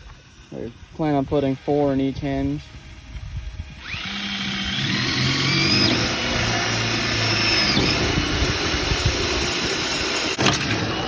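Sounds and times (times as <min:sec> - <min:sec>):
electric drill drilling metal: 0:01.1 - 0:11.0.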